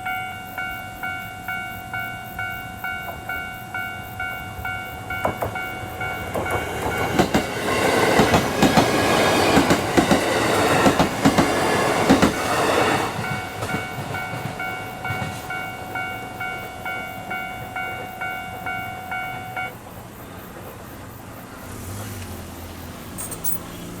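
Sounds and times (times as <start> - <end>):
level-crossing alarm dinging: 0.0 - 19.9
train wheels clicking over rail joints: 0.0 - 24.0.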